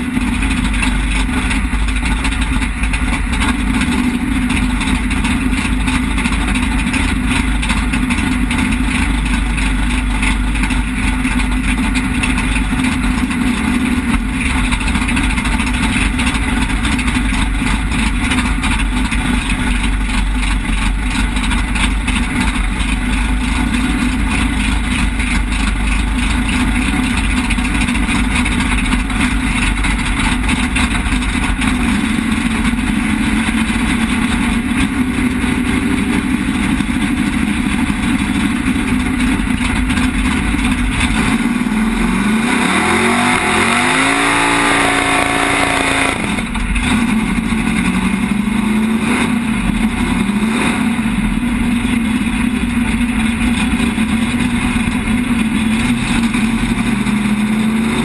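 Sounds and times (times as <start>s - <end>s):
race car engine idling: 0.0s - 58.0s.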